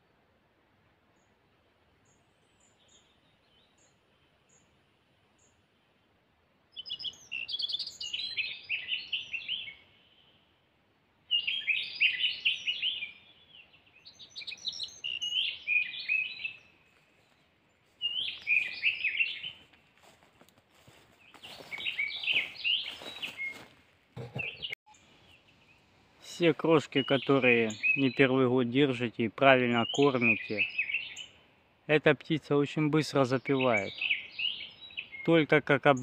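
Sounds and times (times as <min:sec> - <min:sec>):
bird twittering song: 0:01.1 - 0:06.1, 0:06.7 - 0:10.6, 0:11.2 - 0:36.0.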